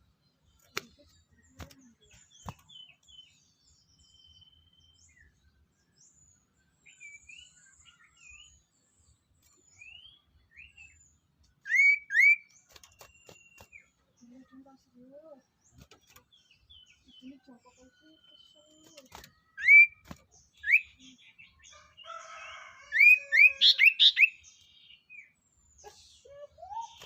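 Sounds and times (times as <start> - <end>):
songbirds chirping and whistling: 0.0 - 27.0.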